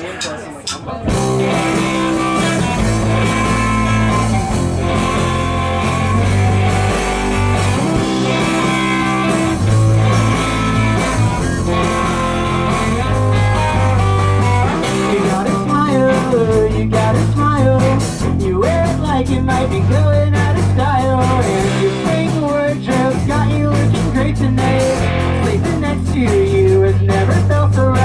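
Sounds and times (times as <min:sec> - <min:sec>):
live rock band playing: 0:00.2 - 0:28.0.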